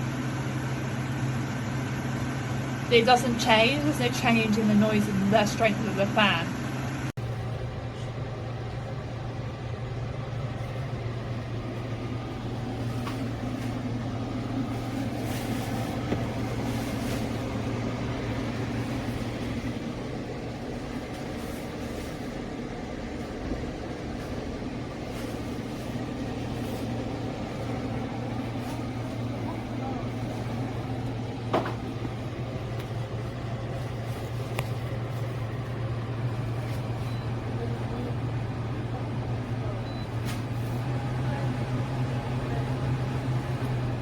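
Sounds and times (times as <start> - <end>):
portable air conditioner fan running: 0.0 - 44.0.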